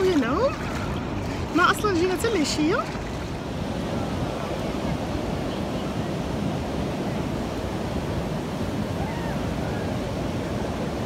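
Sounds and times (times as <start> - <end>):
surf breaking on beach: 0.0 - 11.0
wind rumbling on microphone: 0.0 - 11.0.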